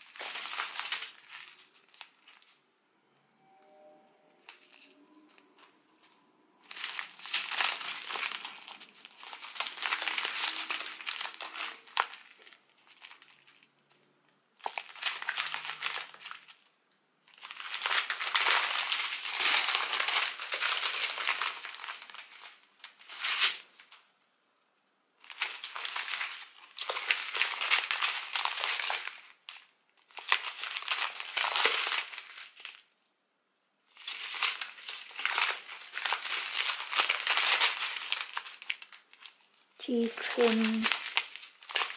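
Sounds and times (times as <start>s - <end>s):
plastic packets crinkling: 0.0s - 2.6s, 4.4s - 24.1s, 25.2s - 33.0s, 33.9s - 41.9s.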